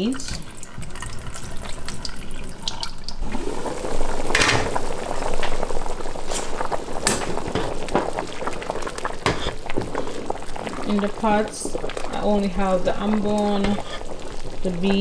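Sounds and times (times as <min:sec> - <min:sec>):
soup boiling and bubbling: 0:00.0 - 0:15.0.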